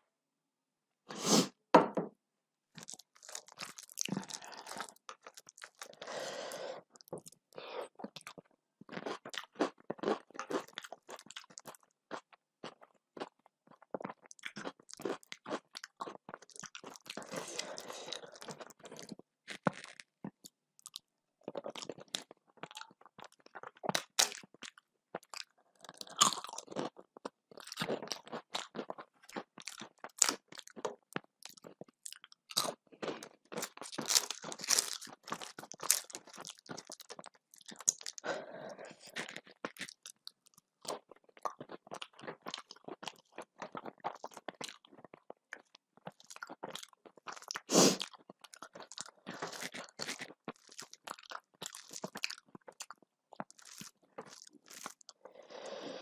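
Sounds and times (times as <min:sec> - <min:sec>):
person chewing and crunching food: 0:02.7 - 0:56.0.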